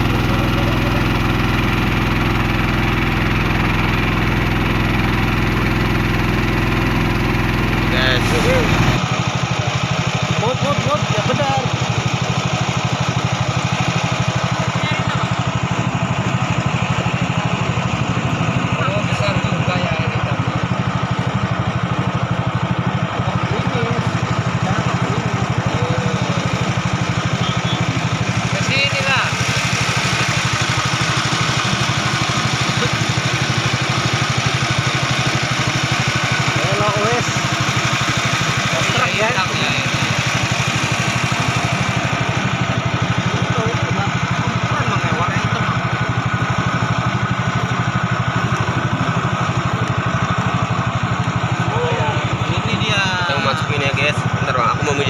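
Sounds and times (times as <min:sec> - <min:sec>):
boat engine throbbing: 0:00.0 - 0:11.7, 0:12.4 - 0:55.0.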